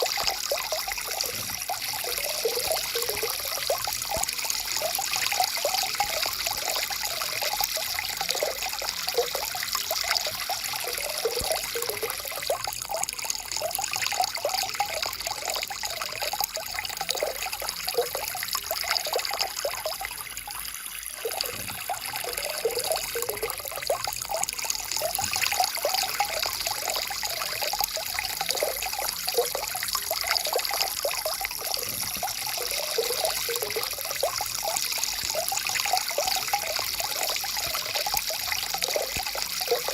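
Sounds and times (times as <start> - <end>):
stream water gurgling: 0.0 - 39.9.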